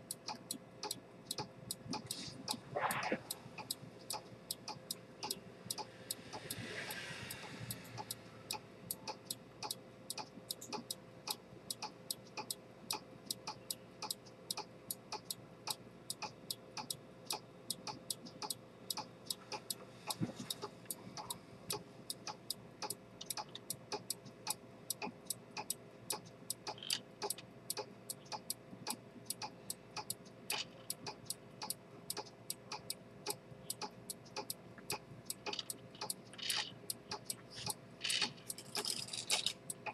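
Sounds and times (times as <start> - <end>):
pocket watch ticking: 0.0 - 39.9.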